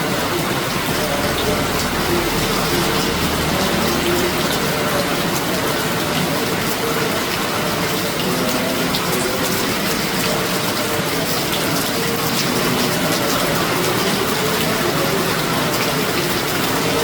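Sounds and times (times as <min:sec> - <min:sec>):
very heavy rain pouring: 0:00.0 - 0:17.0.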